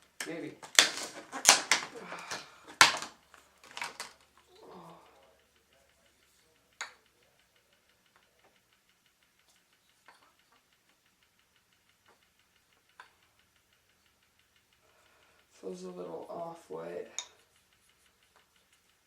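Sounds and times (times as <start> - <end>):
hands handling wooden toy clicks: 0.0 - 19.0.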